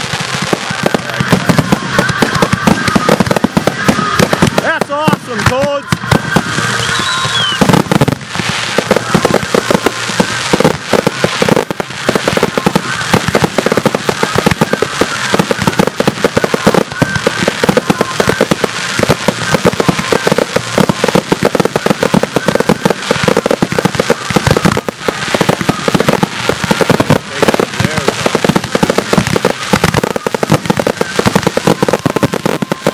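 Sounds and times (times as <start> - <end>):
fireworks bangs and crackle: 0.0 - 32.9.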